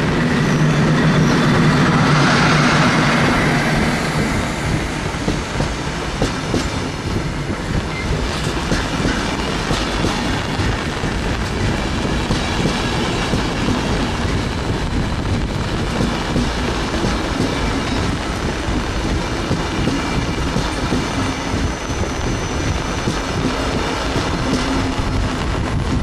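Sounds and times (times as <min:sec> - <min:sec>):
train rumbling and rattling: 0:00.0 - 0:26.0.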